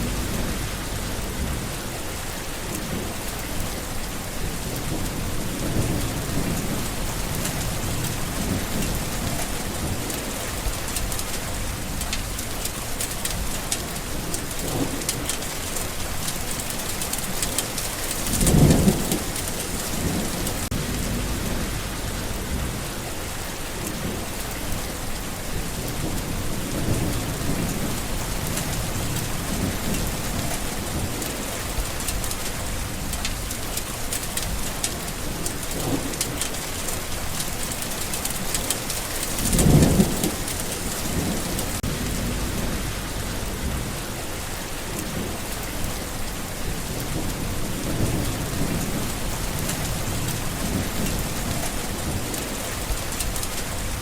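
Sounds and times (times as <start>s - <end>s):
steady rain: 0.0s - 54.0s
thunder rumbling: 0.0s - 54.0s.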